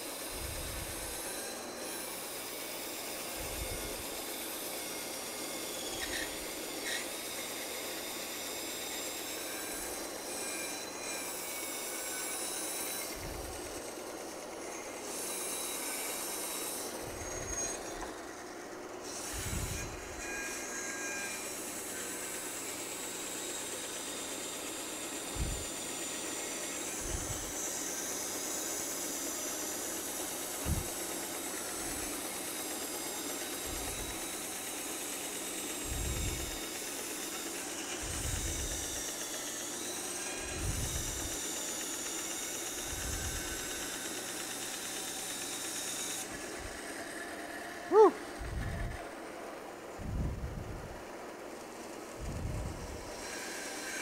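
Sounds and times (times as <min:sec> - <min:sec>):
bandsaw cutting wood: 0:00.0 - 0:54.0.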